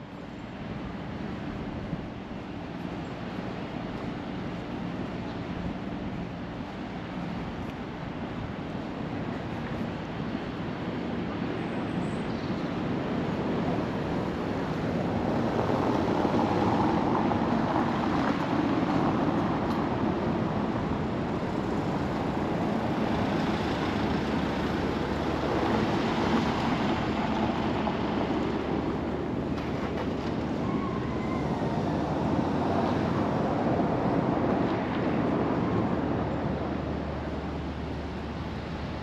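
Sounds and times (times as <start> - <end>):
distant street traffic: 0.0 - 39.0
wind: 0.0 - 39.0.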